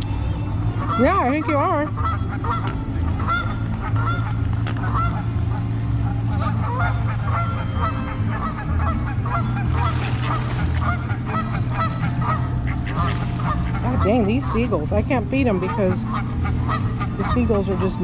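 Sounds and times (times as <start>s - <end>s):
seagulls squawking: 0.0s - 18.0s
steady low hum: 0.0s - 18.0s.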